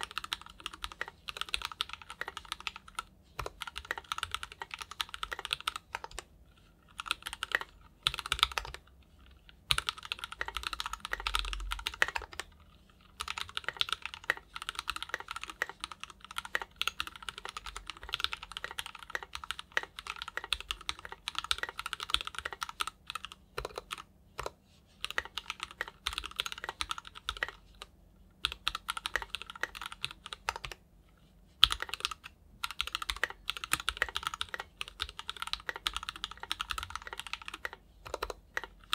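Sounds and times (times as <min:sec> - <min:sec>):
mechanical keyboard typing: 0:00.0 - 0:06.3, 0:06.9 - 0:08.8, 0:09.7 - 0:30.8, 0:31.6 - 0:38.9.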